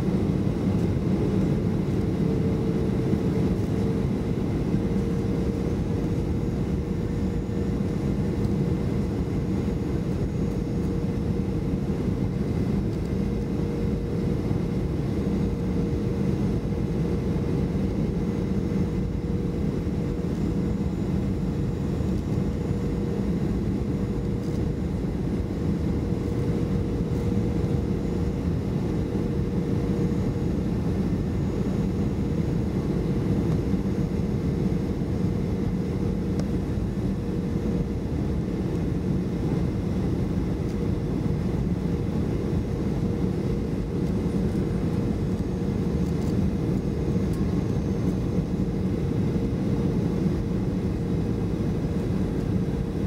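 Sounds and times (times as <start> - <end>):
jet engine drone: 0.0 - 53.0
steady hum: 0.0 - 53.0.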